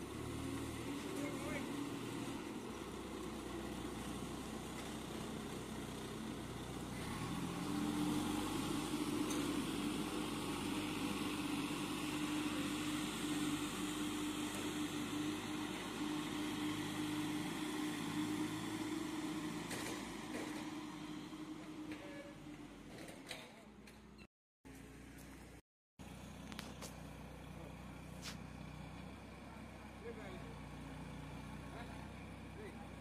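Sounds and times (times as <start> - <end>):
diesel engine running: 0.0 - 23.0, 24.7 - 33.0.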